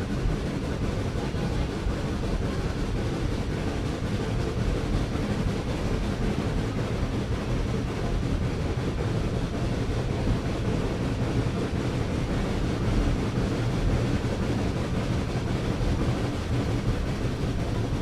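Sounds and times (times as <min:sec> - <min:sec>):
moving train rumble: 0:00.0 - 0:18.0.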